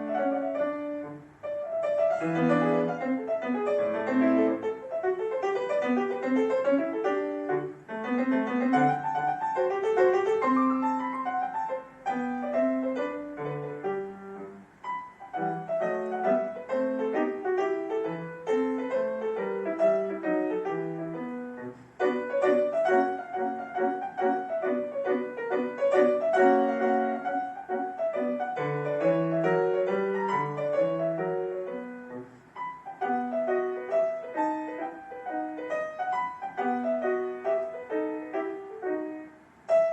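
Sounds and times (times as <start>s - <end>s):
solo piano classical piece: 0.0s - 39.9s.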